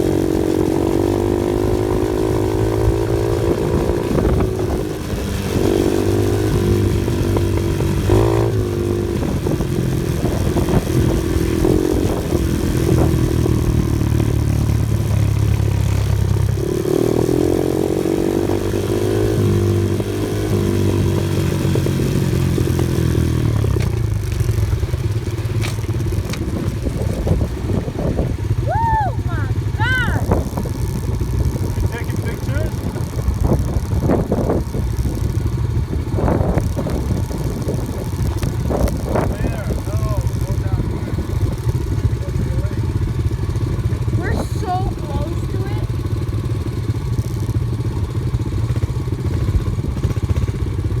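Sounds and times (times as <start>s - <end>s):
vehicle rattling and clatter: 0.0s - 28.6s, 29.3s - 51.0s
off-road vehicle engine revving: 0.0s - 51.0s.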